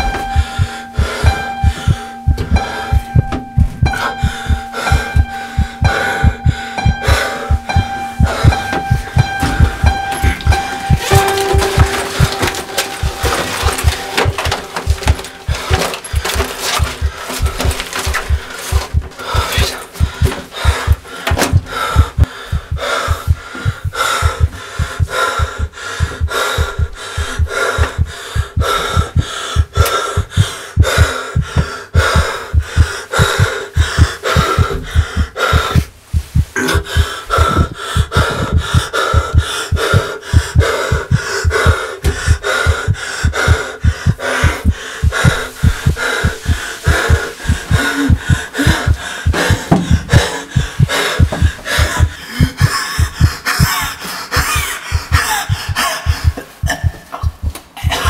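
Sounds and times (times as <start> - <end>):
laboured breathing: 0.0 - 58.0
rapid heartbeat thumping: 0.0 - 58.0
steady high hum: 0.0 - 58.0.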